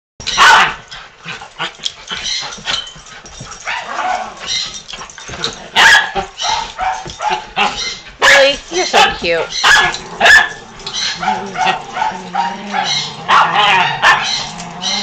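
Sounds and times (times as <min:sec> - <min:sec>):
dogs barking and yipping: 0:00.2 - 0:15.0.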